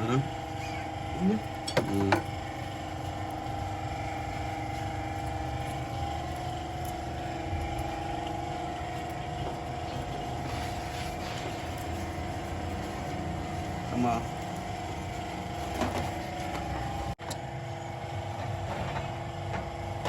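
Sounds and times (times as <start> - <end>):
motor humming: 0.0 - 20.0.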